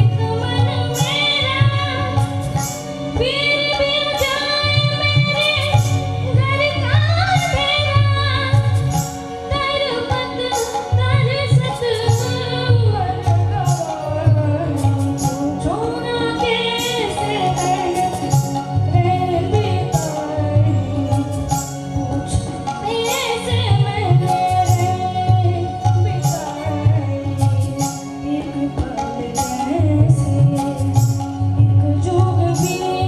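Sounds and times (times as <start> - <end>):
boy singing: 0.0 - 2.6, 3.2 - 33.0
instrumental music with drum beat: 0.0 - 33.0.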